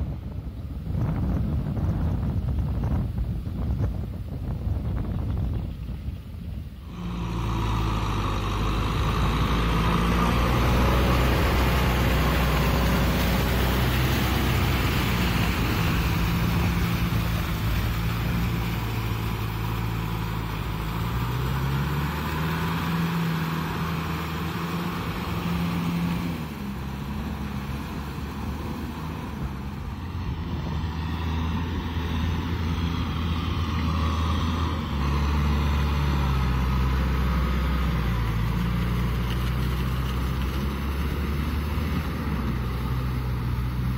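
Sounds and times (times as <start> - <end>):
tractor diesel engine: 5.6 - 43.9.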